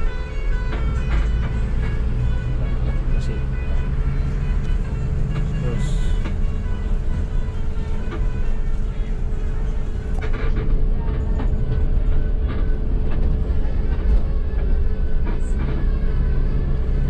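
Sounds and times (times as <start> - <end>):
bus engine and road rumble: 0.0 - 17.0
constant hum: 0.0 - 17.0.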